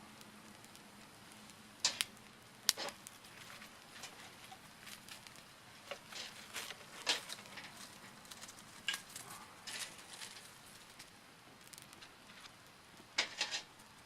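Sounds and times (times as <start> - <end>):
campfire crackling and snapping: 0.0 - 14.0.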